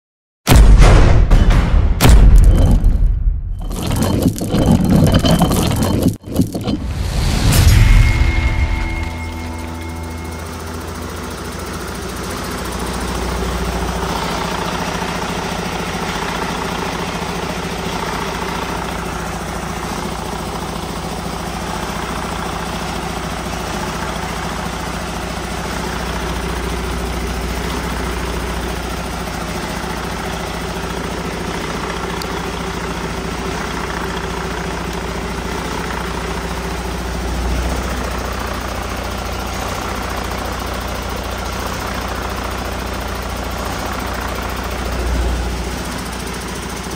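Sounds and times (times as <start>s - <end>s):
diesel engine idling: 8.7s - 46.9s.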